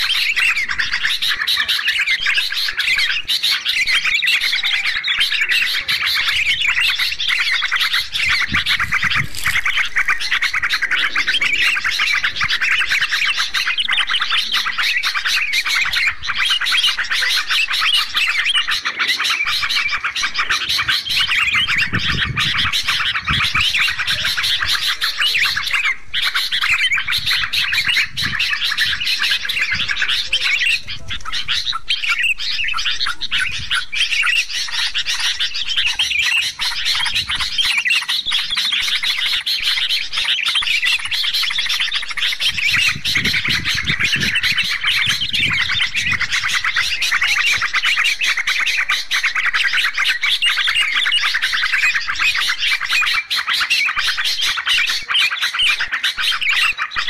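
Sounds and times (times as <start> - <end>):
birds chattering and chirping: 0.0 - 57.0.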